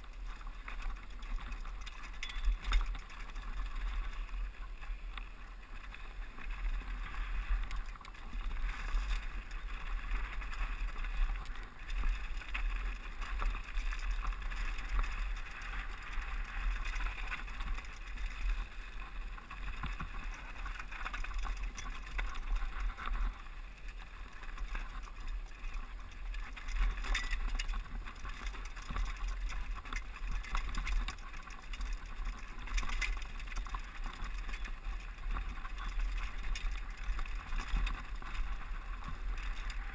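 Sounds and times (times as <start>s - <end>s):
wind rushing on camera: 0.0s - 39.9s.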